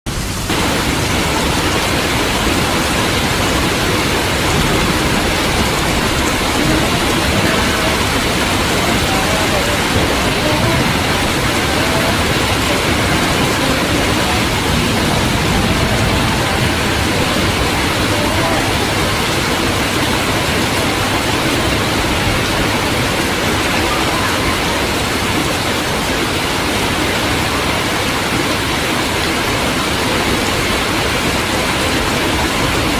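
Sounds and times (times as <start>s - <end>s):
heavy rain falling: 0.1s - 32.9s.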